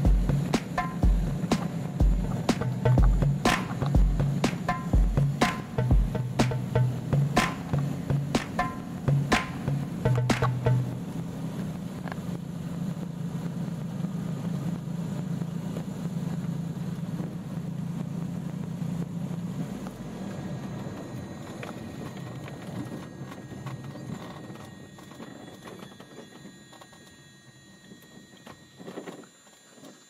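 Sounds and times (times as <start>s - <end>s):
propeller plane engines droning: 0.0s - 26.9s.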